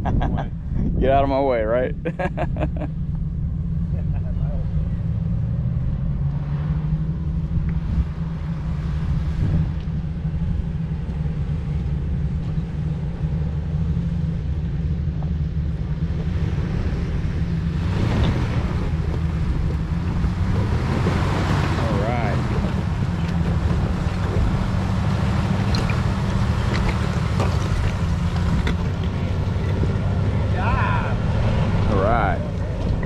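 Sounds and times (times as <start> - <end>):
off-road vehicle engine droning: 0.0 - 33.0.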